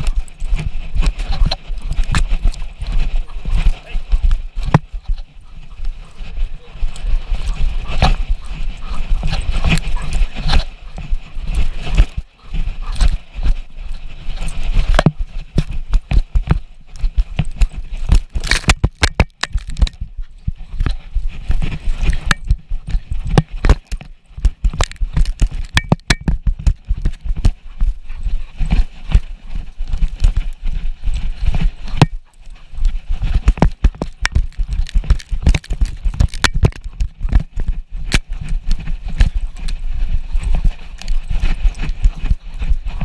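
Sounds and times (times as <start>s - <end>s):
dog paws running on snow: 0.0s - 43.0s.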